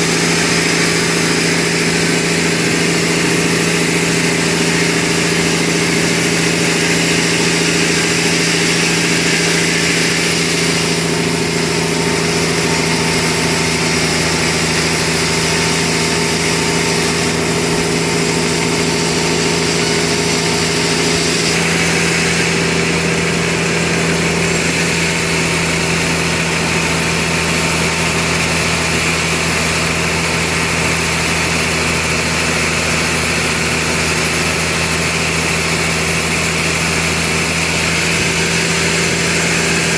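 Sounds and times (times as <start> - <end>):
engine-driven machinery hum: 0.0 - 39.9
high hissing saw: 0.0 - 39.9.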